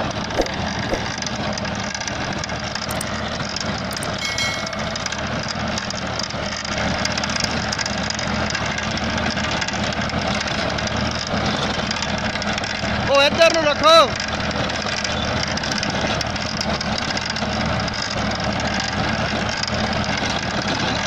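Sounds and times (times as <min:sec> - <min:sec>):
rotavator blades churning soil: 0:00.0 - 0:04.2, 0:04.9 - 0:21.0
tractor diesel engine running: 0:00.0 - 0:21.0.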